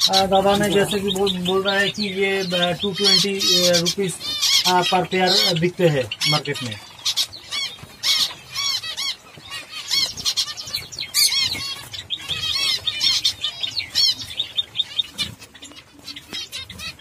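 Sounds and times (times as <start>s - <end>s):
finches calling: 0.0s - 17.0s.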